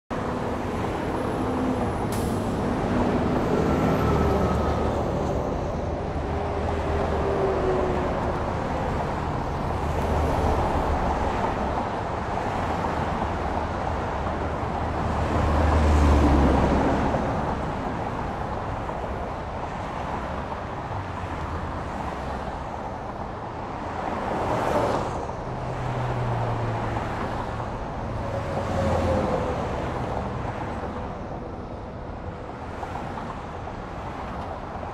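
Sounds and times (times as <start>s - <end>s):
road traffic passing: 0.1s - 34.9s.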